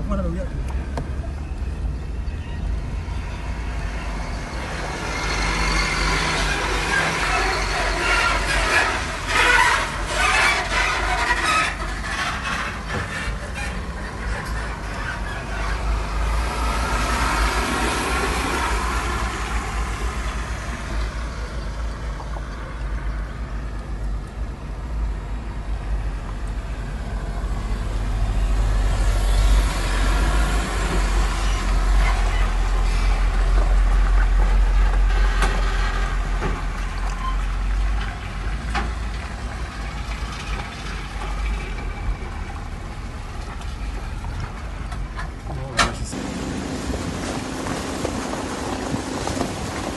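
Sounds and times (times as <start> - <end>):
car rumbling over rough road: 0.0 - 49.9
heavy trucks passing: 0.0 - 49.9.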